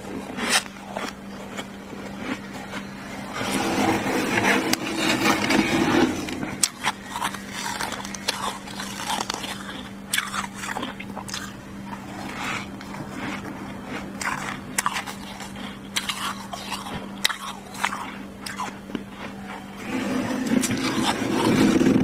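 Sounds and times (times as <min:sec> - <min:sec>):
crunching frost between teeth: 0:00.0 - 0:22.0
steady low hum: 0:00.0 - 0:22.0.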